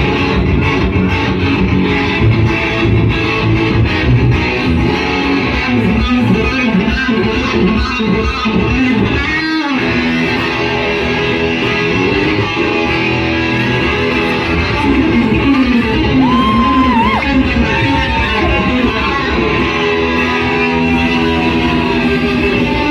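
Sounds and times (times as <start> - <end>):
electric guitar through amplifier: 0.0 - 22.9.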